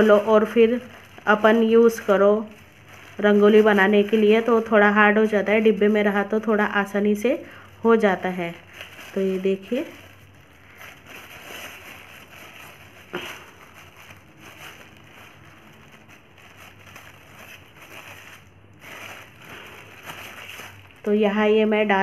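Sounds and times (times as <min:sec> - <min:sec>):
plastic bag rustling: 0:00.0 - 0:22.0.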